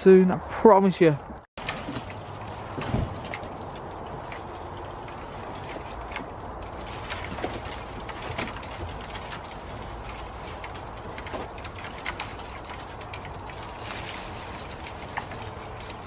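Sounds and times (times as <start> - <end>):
twigs crackling and snapping: 1.6 - 16.0.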